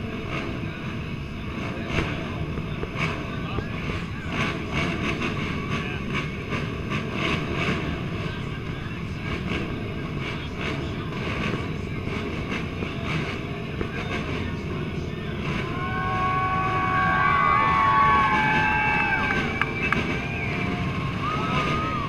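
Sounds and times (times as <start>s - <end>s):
atv engines running: 0.0s - 22.0s
crowd chatter: 0.0s - 22.0s.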